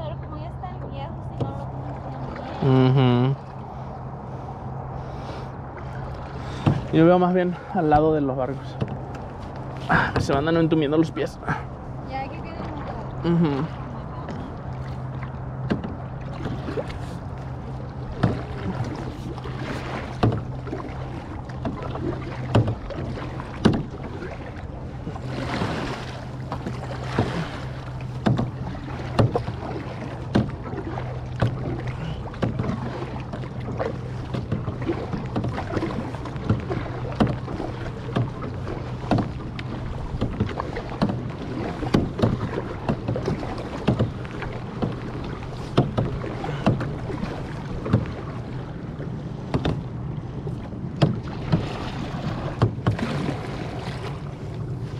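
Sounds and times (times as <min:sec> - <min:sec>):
paddle splashing water: 0:00.0 - 0:54.9
steady low hum: 0:00.0 - 0:54.9.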